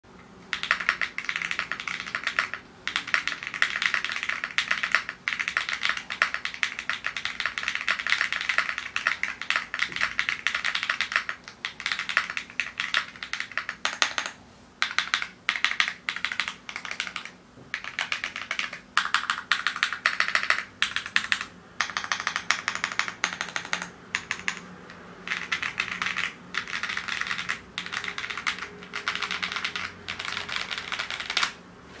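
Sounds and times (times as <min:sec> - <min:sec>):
mechanical keyboard typing: 0:00.5 - 0:31.6.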